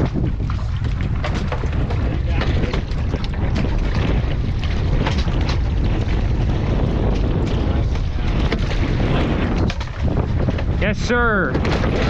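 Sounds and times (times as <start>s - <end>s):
boat engine rumble: 0.0s - 12.0s
knocks and splashes: 0.0s - 12.0s
wind buffeting microphone: 0.0s - 12.0s.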